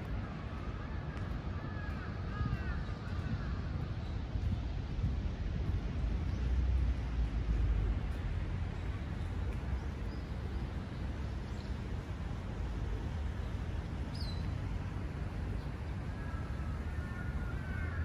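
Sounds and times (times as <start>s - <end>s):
outdoor background rumble and hiss: 0.0s - 18.0s.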